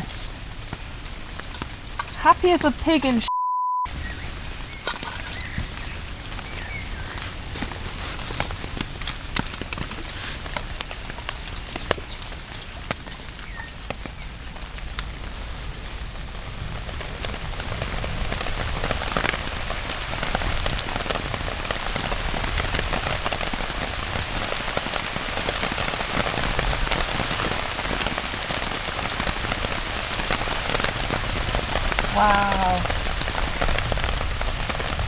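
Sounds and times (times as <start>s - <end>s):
heavy rain falling: 0.0s - 3.3s, 3.9s - 35.0s.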